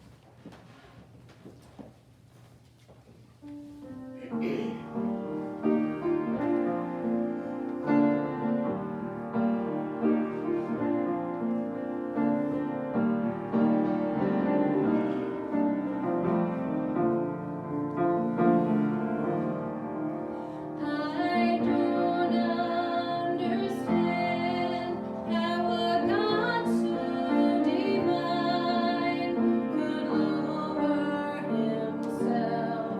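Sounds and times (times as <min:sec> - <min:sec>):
piano playing: 0:03.5 - 0:32.9.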